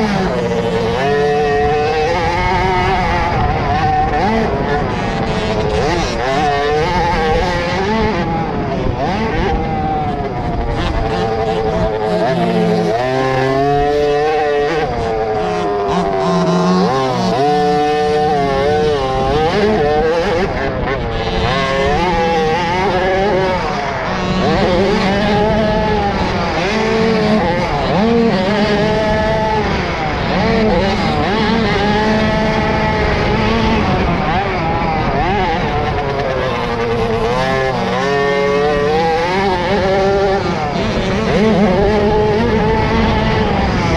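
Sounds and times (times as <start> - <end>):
motocross bike engines revving: 0.0 - 43.9.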